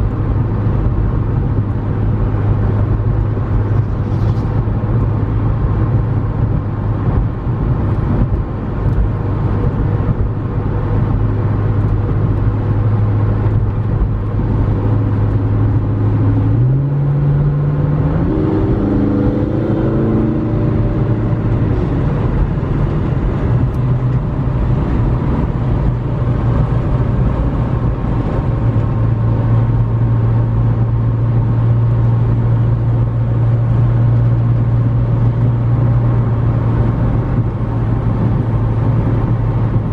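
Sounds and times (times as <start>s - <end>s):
car engine cruising: 0.0s - 39.9s.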